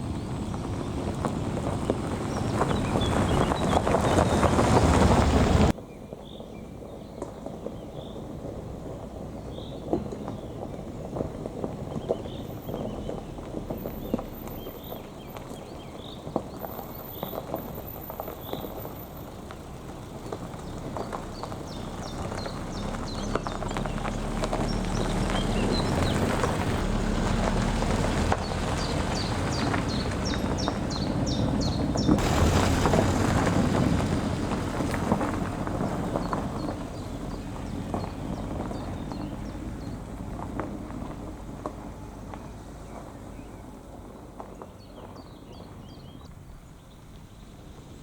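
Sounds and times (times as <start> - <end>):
birds chirping: 0.0 - 8.4, 9.3 - 48.0
car engine rumbling: 0.0 - 48.0
tyres crunching on gravel: 0.0 - 48.0.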